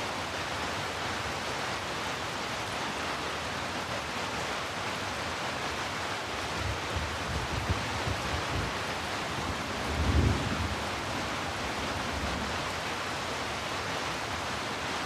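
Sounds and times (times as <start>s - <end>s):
heavy rainfall hiss: 0.0s - 15.0s.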